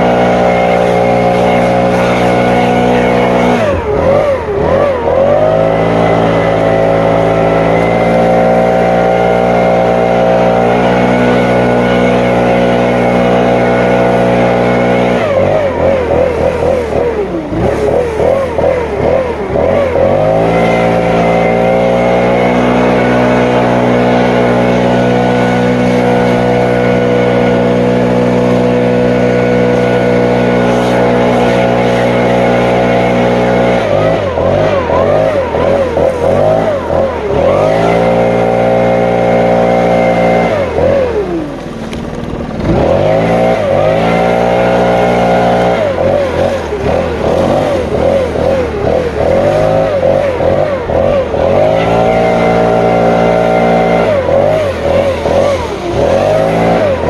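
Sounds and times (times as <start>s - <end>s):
leaf blower engine running: 0.0s - 57.0s.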